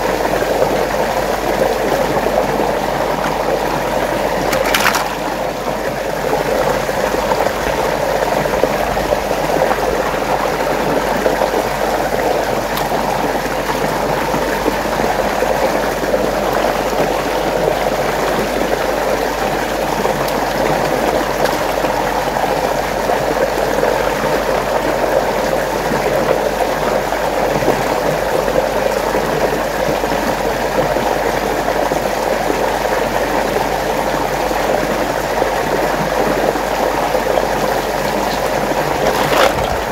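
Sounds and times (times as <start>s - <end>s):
water churning in whirlpool: 0.0s - 39.9s.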